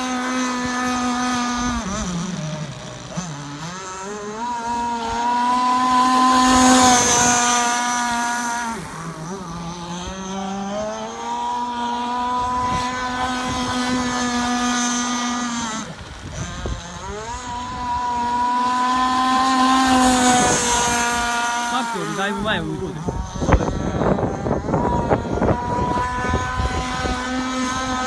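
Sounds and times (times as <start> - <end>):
model speedboat two-stroke engine: 0.0 - 28.0.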